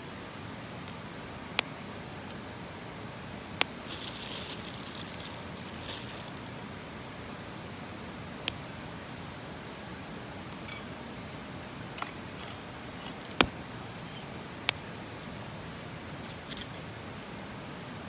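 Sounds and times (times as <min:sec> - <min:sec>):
campfire hissing: 0:00.0 - 0:18.0.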